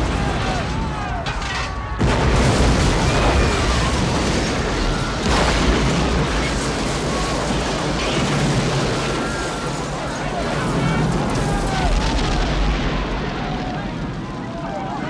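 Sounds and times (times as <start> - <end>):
explosion blast: 0.0 - 14.4
fire and debris rumble: 0.0 - 15.0.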